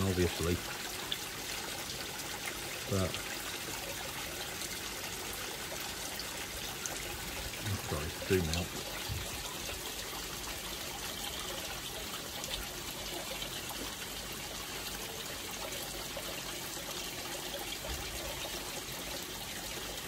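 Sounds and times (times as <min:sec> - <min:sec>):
water trickling in pond: 0:00.0 - 0:20.0.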